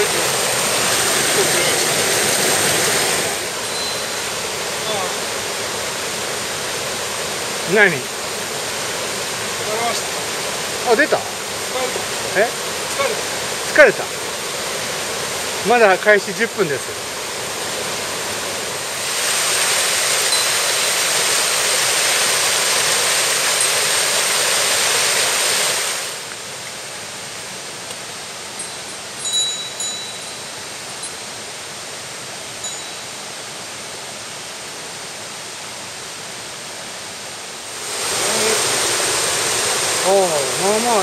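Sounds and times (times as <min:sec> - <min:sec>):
stream water rushing over cascade: 0:00.0 - 0:41.0.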